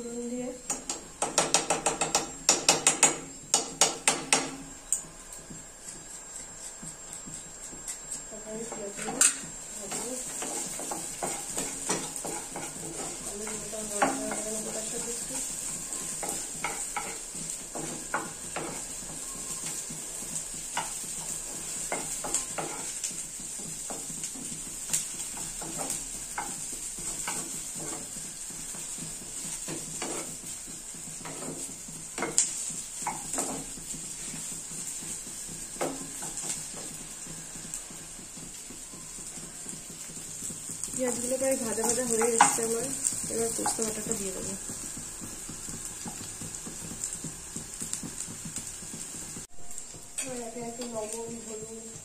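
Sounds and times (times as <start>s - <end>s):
onions sizzling in oil: 0.0s - 52.0s
wooden spatula knocking pan: 0.7s - 4.6s, 8.6s - 52.0s.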